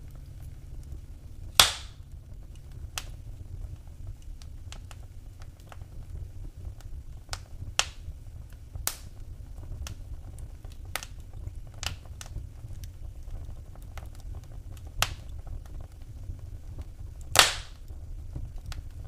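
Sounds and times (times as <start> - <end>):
loud fire snaps: 0.0 - 19.0
wood fire crackling: 0.0 - 19.0.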